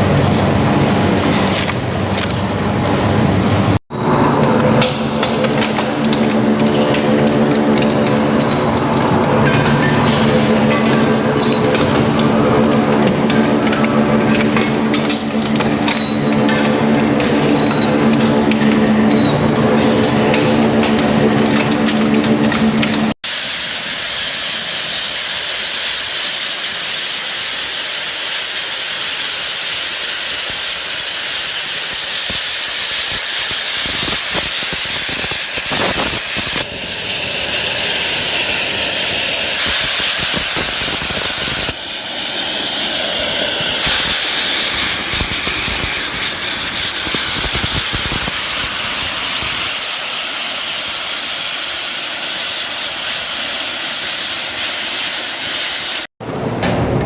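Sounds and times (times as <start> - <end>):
heavy machinery hissing: 0.0 - 56.1.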